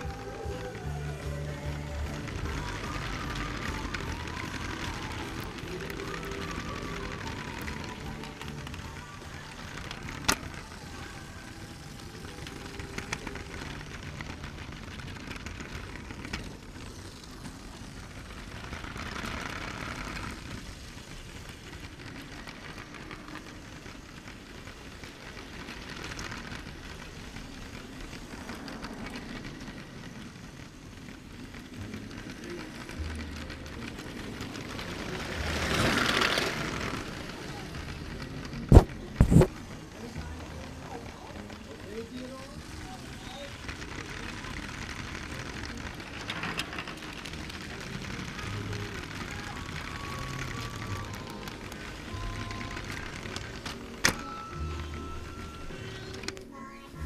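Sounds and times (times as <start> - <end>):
toy train motor and wheels rumbling: 0.0 - 57.0.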